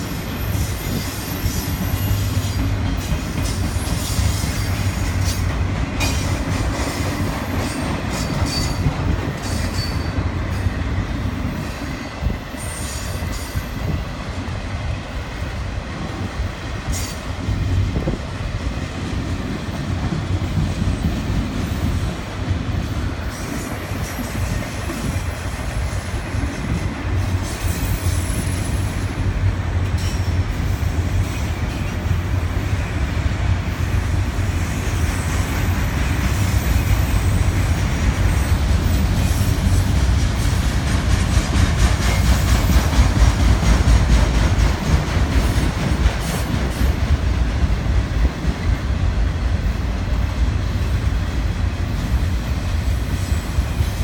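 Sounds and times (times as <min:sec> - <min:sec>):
freight train wheels rumbling: 0:00.0 - 0:54.0
rapid clicking of train wheels: 0:00.0 - 0:54.0.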